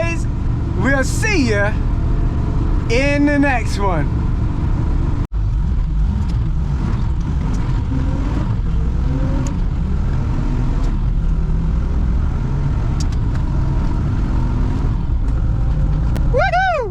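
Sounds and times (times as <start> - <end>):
truck engine and road rumble: 0.0 - 16.9.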